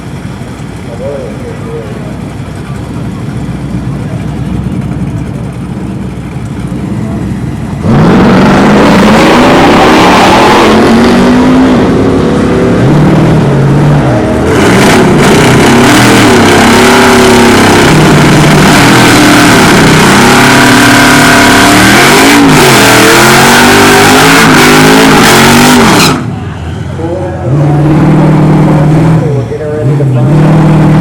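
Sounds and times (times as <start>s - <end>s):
drag racing engines at full throttle: 0.0s - 31.0s.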